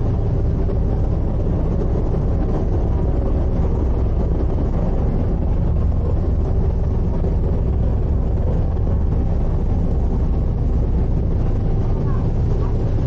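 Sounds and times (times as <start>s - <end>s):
ship engines rumbling: 0.0s - 13.0s.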